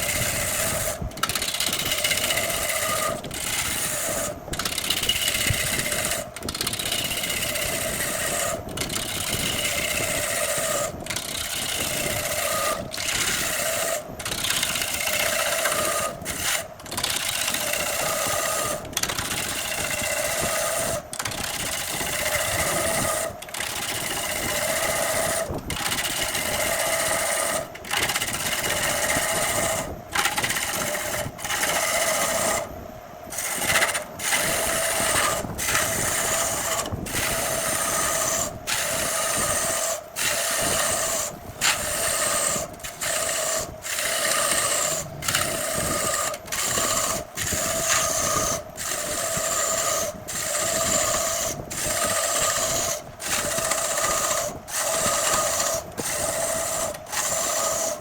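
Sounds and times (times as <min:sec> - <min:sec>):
lathe motor hum: 0:00.0 - 0:58.0
tool cutting wood hissing: 0:00.0 - 0:58.0.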